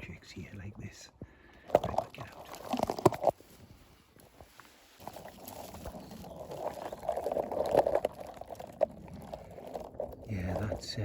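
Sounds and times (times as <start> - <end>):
vegetation rustling and crackling: 2.1 - 11.0.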